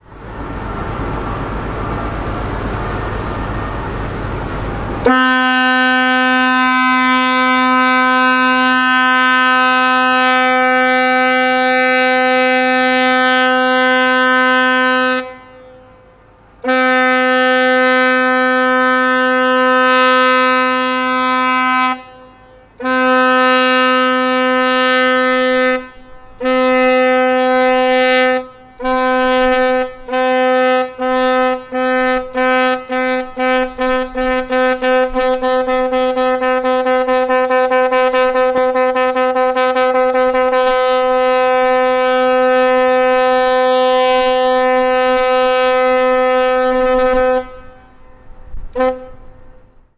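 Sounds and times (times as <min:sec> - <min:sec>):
ship's horn blasts: 0:00.0 - 0:49.9.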